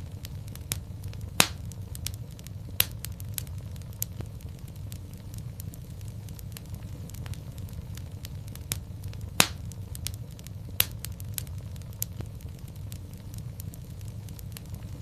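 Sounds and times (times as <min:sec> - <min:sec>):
fire popping: 0:00.0 - 0:15.0
low rumble of flames: 0:00.0 - 0:15.0.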